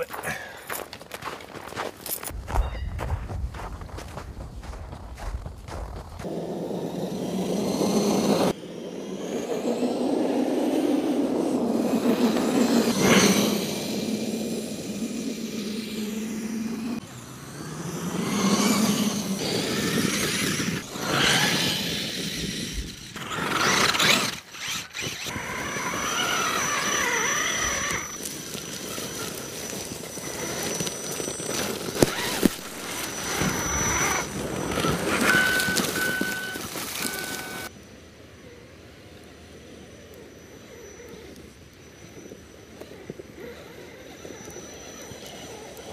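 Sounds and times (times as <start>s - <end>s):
tyres crunching through snow: 0.0s - 8.6s, 9.2s - 37.7s
toy truck motor whine: 6.2s - 37.7s, 39.6s - 45.9s.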